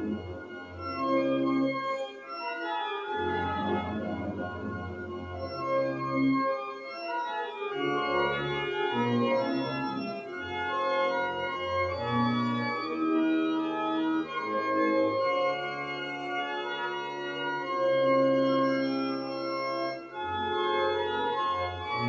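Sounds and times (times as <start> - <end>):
pipe organ playing chords: 0.0 - 22.0.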